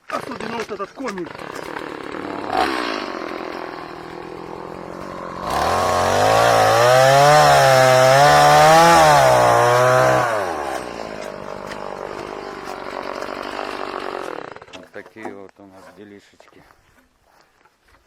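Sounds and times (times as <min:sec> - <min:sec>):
chainsaw cutting wood: 0:00.0 - 0:15.4.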